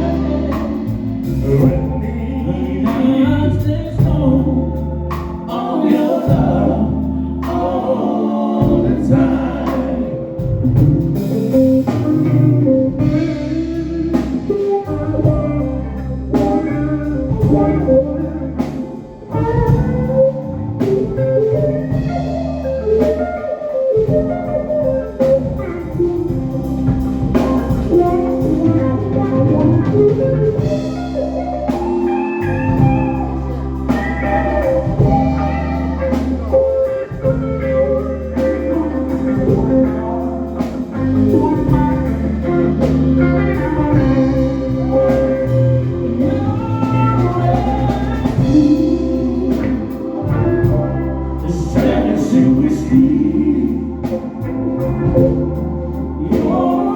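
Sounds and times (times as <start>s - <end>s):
drum kit: 0.0s - 56.9s
guitar: 0.0s - 56.9s
low bass line: 0.0s - 56.9s.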